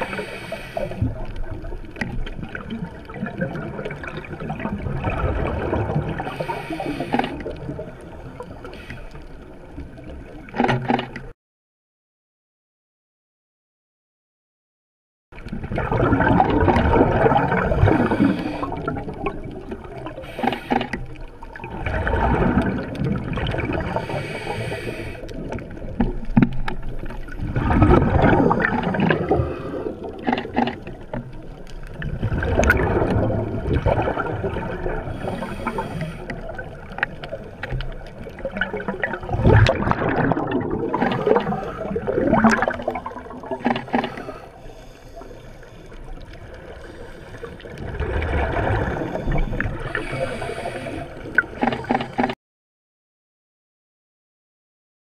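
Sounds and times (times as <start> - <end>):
low watery rush: 0.0 - 11.2, 15.4 - 52.4
exhaled bubbles gurgling underwater: 0.0 - 11.3, 15.4 - 52.4.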